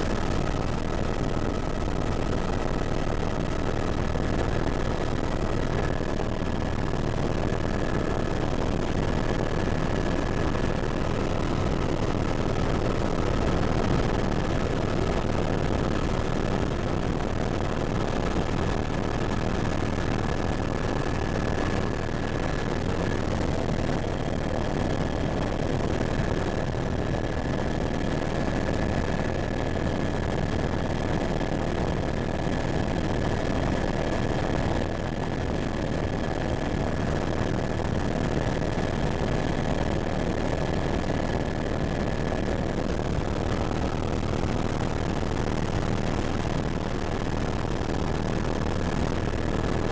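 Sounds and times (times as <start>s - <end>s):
helicopter engine and rotor: 0.0s - 49.9s.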